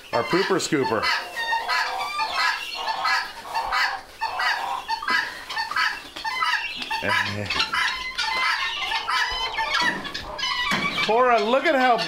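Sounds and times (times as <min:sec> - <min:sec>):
poultry flock calling: 0:00.0 - 0:12.0.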